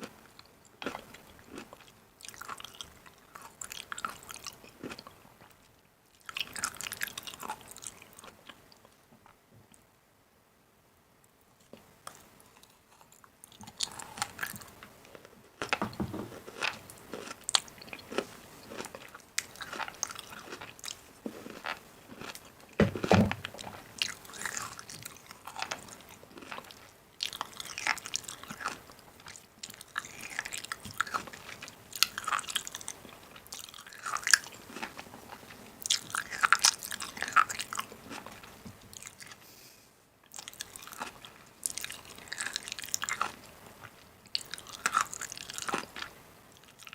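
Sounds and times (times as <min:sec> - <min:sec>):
food crunching and clicking: 0:00.0 - 0:09.8, 0:11.6 - 0:39.4, 0:40.2 - 0:46.9.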